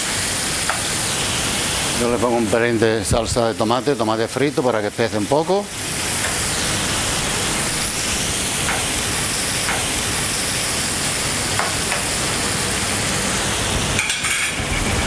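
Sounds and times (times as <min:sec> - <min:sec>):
sauce sizzling in a frying pan: 0:00.0 - 0:15.0.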